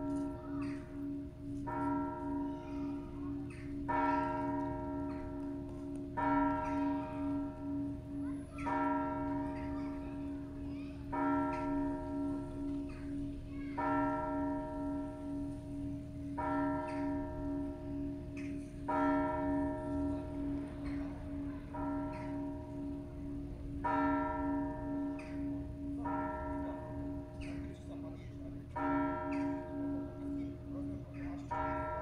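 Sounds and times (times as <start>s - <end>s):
church bell ringing: 0.0s - 32.0s.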